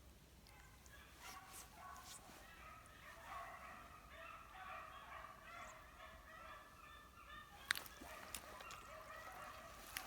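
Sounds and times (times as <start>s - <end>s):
hounds baying faintly: 0.4s - 10.0s.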